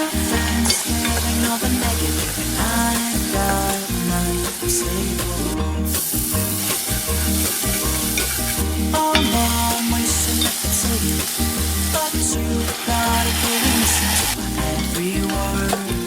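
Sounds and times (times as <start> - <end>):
music with pulsing bass: 0.0 - 16.0.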